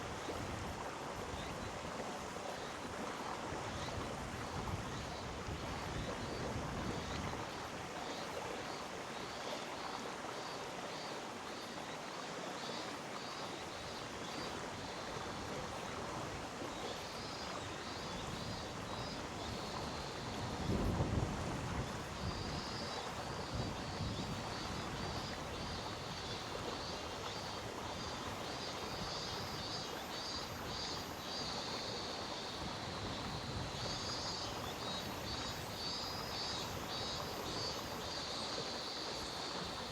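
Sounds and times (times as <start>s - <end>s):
insects chirping: 3.6s - 39.9s.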